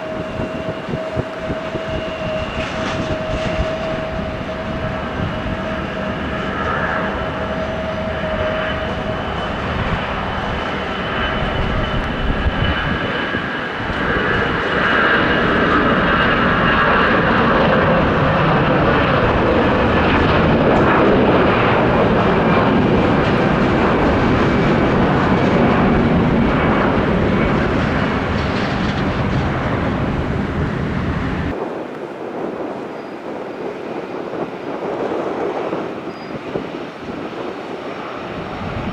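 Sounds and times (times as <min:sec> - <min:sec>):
jet engines rushing: 0:00.0 - 0:38.9.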